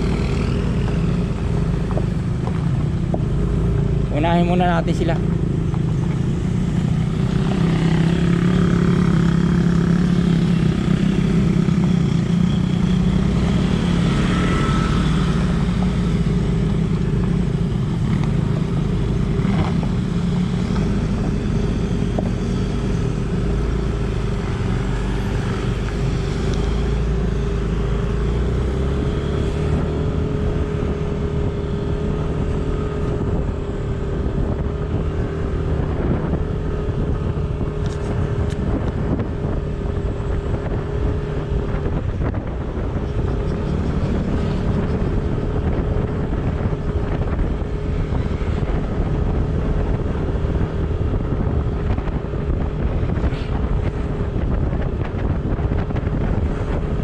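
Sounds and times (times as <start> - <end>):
engine hum: 0.0 - 57.0
road and wind noise: 0.0 - 57.0.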